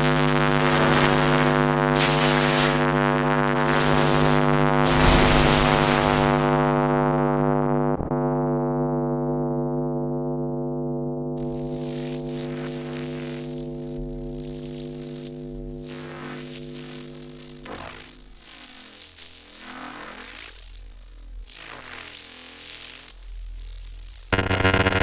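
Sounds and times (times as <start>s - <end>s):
electrical arc hum: 0.0s - 8.0s, 11.4s - 25.0s.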